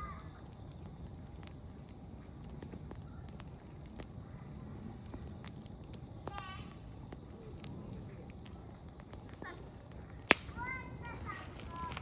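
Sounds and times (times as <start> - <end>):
campfire crackling: 0.0 - 12.0
firewood popping: 0.0 - 12.0
insects chirping: 0.0 - 12.0.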